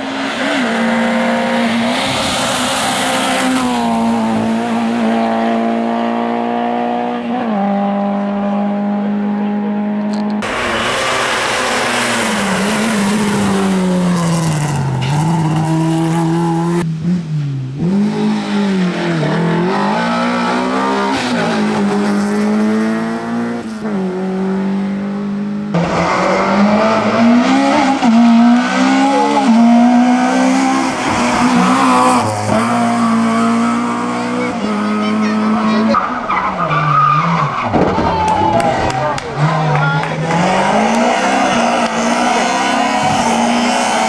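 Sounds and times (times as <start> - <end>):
race car engines revving: 0.0 - 44.0.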